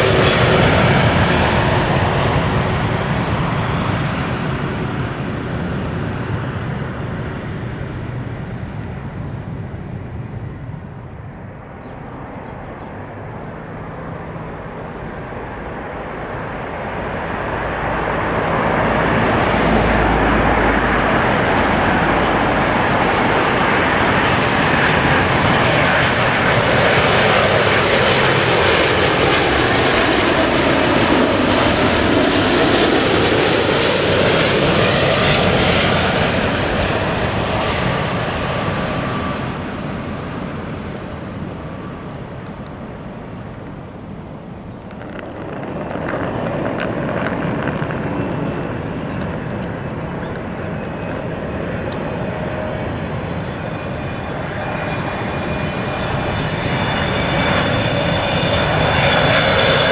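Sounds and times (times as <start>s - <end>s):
jet airliner passing overhead: 0.0s - 59.9s.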